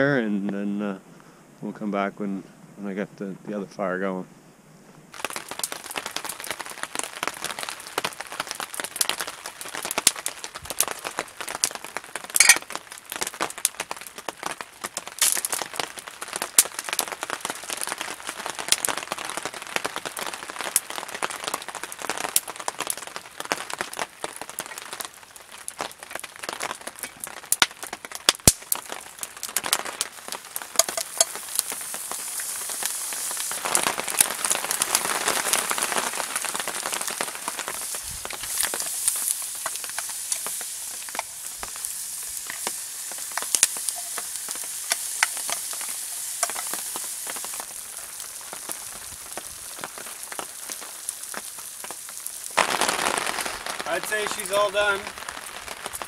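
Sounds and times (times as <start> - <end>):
campfire crackling: 0.0 - 56.0
rain pattering on a tarp: 5.0 - 56.0
meat frying in a pan: 5.1 - 56.0.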